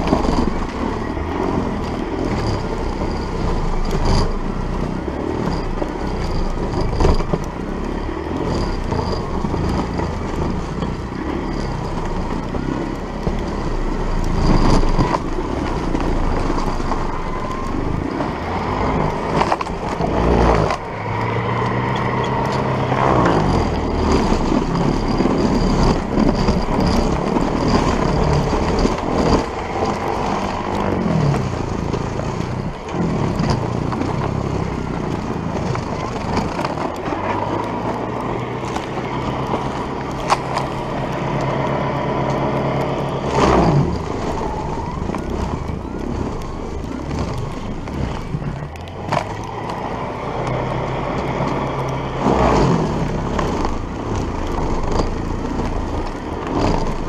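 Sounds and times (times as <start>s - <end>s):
electric snowblower running: 0.0s - 57.0s.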